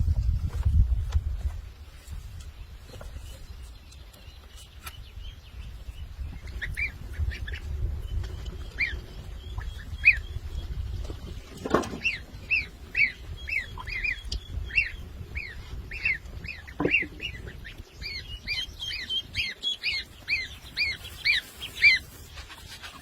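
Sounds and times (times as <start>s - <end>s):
bird chirping: 2.6s - 23.0s.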